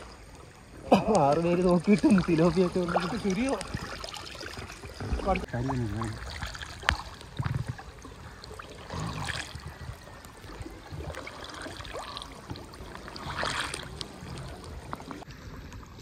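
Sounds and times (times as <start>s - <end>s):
small splashes: 0.0s - 15.3s
water sloshing around waders: 0.0s - 16.0s.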